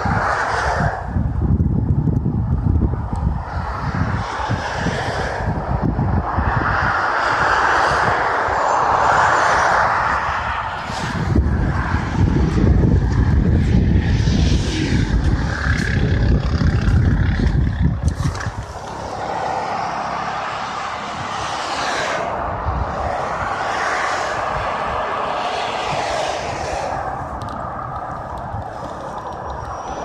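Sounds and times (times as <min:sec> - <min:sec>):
heavy low rumble: 0:00.0 - 0:30.0
vehicles passing: 0:00.0 - 0:30.0
expressway traffic hiss: 0:02.9 - 0:18.0, 0:18.6 - 0:30.0.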